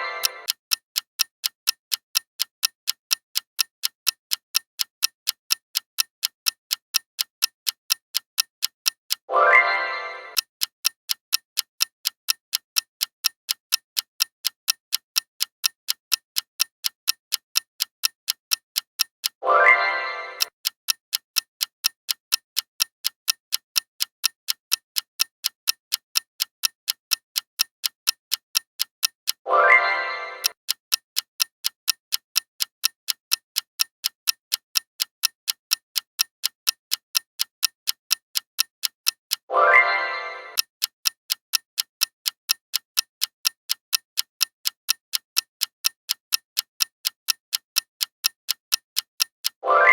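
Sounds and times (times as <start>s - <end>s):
clock ticking fast: 0.0s - 49.9s.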